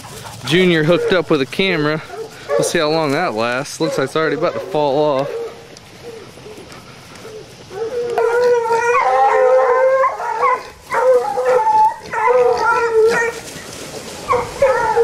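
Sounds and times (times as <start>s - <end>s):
hound puppies baying: 0.0s - 15.0s.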